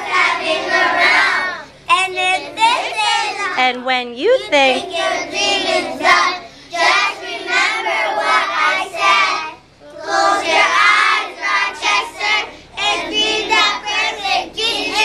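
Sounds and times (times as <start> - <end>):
children singing in unison: 0.0 - 3.6, 4.8 - 15.0.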